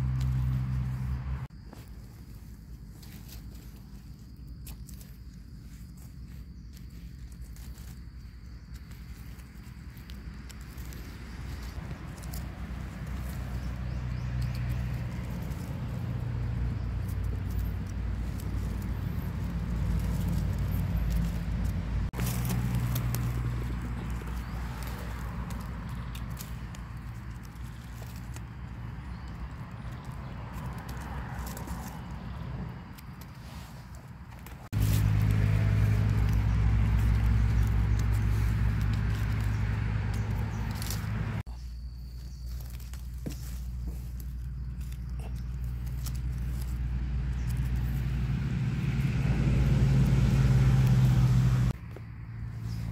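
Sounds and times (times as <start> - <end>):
low motor hum: 0.0 - 1.6, 5.3 - 31.4, 34.7 - 52.9
dry leaves rustling and crackling: 0.0 - 52.9.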